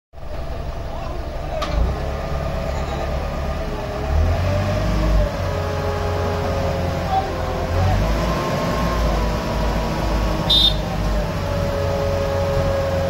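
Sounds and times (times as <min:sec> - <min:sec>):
diesel engine rumble: 0:00.1 - 0:13.0.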